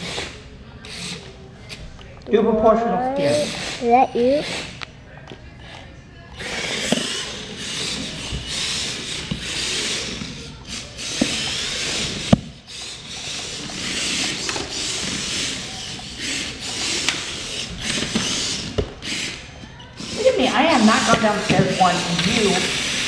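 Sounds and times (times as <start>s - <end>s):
remote-control vehicles whirring: 0.0s - 2.1s, 3.0s - 23.0s.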